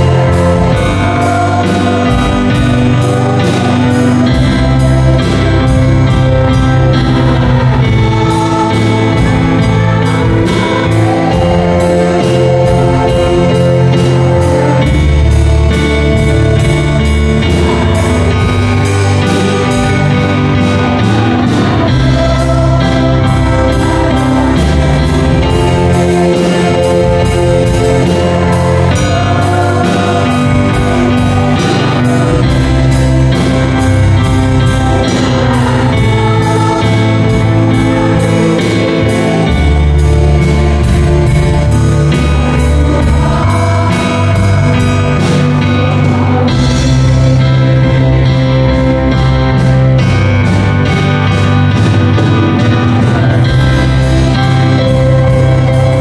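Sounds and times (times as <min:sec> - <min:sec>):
bass: 0:00.0 - 0:56.0
drum kit steady beat: 0:00.0 - 0:56.0
keyboard sustained chords: 0:00.0 - 0:56.0.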